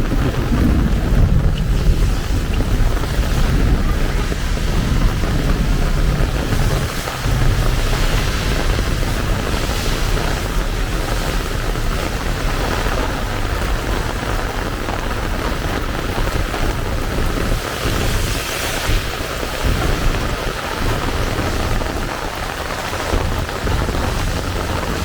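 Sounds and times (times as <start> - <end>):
deep continuous rumble: 0.0 - 25.0
heavy rain pouring: 0.0 - 25.0.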